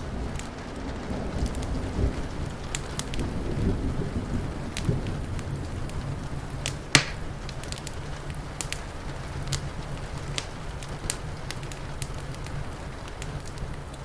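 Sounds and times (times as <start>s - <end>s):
crackling wood fire: 0.0s - 14.0s
rolling thunder: 0.0s - 14.0s
steady rain: 0.0s - 14.0s.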